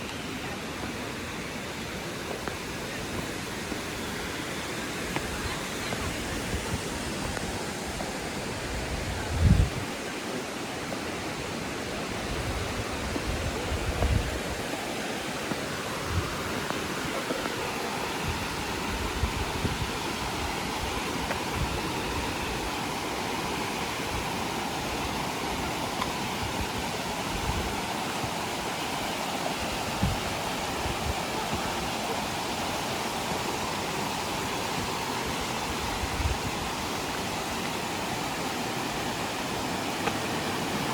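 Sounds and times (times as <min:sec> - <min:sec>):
water pouring down a waterfall: 0:00.0 - 0:40.9.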